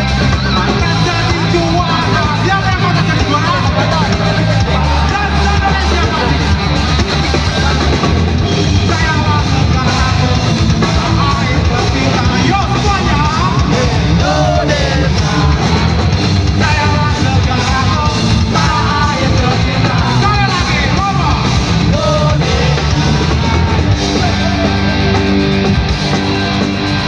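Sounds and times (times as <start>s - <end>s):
lead vocal singing: 0.0s - 27.0s
rock band playing live: 0.0s - 27.0s.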